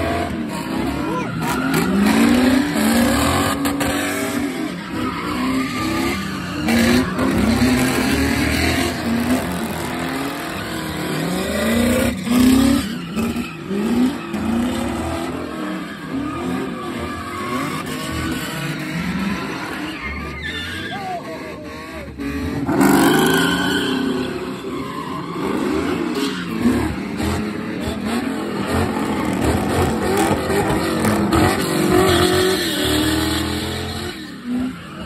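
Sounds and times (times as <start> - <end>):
car engines revving: 0.0 - 35.0
tires skidding and squealing: 0.0 - 35.0.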